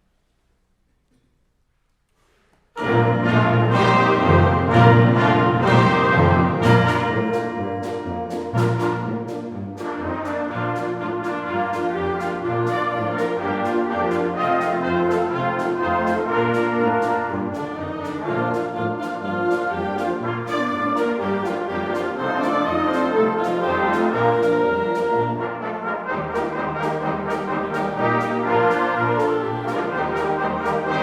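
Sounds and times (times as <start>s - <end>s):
percussion strokes: 2.2s - 31.0s
brass wind band playing: 2.8s - 31.0s.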